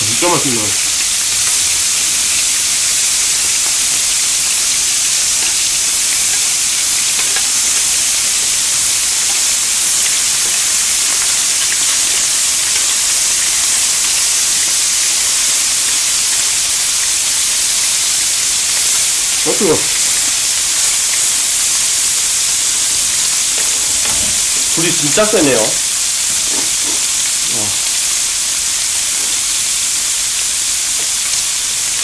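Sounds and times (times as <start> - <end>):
pork sizzling on a grill plate: 0.0 - 32.0.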